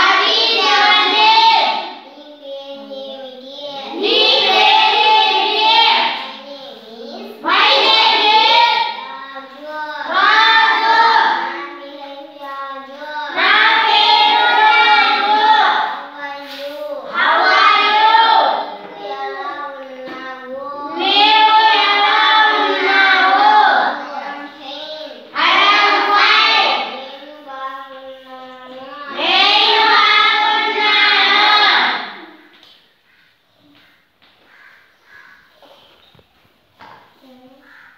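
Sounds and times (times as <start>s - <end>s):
children chanting sing-song: 0.0s - 36.0s, 36.8s - 37.9s.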